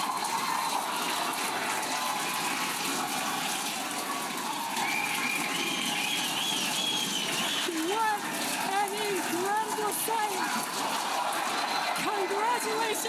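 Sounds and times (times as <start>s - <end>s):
crowd cheering and applauding: 0.0s - 13.0s
high whoops and shouts: 0.0s - 13.0s.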